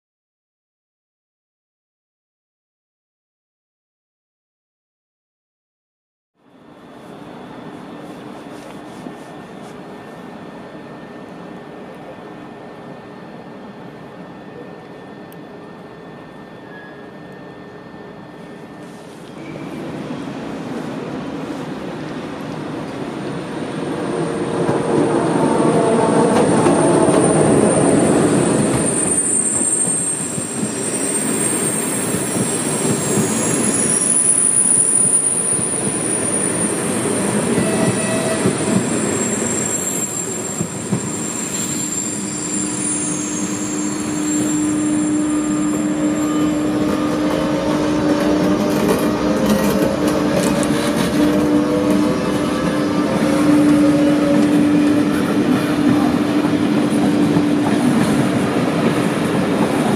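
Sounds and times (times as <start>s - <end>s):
electric locomotive hum and whine: 6.4s - 59.9s
train wheels squealing: 6.5s - 21.6s, 23.6s - 59.9s.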